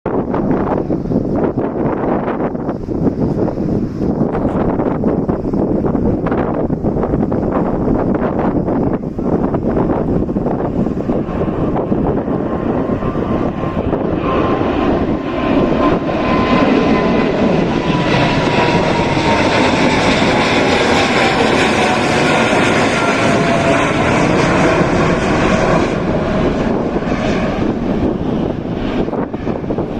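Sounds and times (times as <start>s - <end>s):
airplane engine rush: 0.1s - 29.9s.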